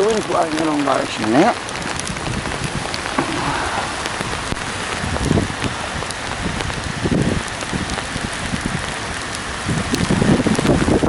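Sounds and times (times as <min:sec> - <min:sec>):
heavy rain falling: 0:00.0 - 0:11.0
wind buffeting microphone: 0:00.0 - 0:11.0.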